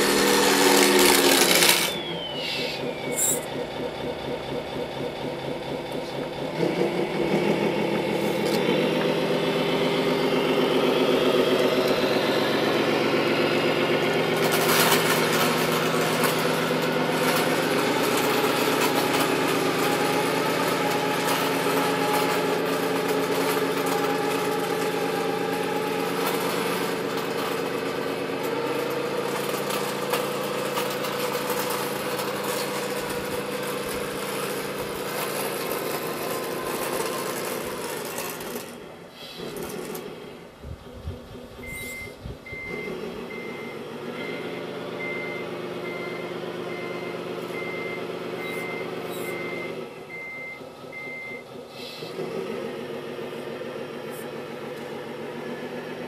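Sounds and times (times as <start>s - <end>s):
model truck motor humming: 0.0s - 56.0s
plough blade pushing snow: 0.0s - 56.0s.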